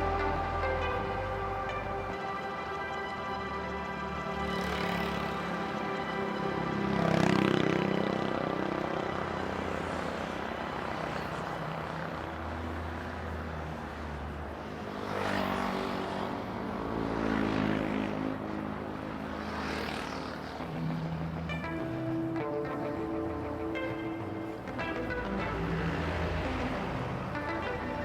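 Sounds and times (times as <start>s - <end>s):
vehicles passing close by: 0.0s - 28.0s.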